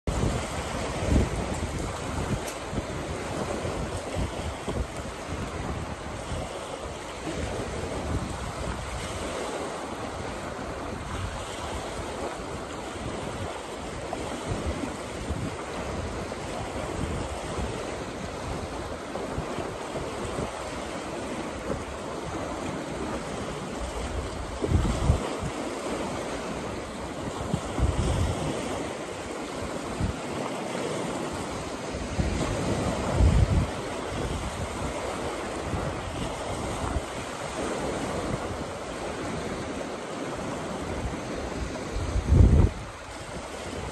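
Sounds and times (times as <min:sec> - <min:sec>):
waves washing over pebbly shore: 0:00.0 - 0:43.9
wind buffeting microphone: 0:00.0 - 0:43.9.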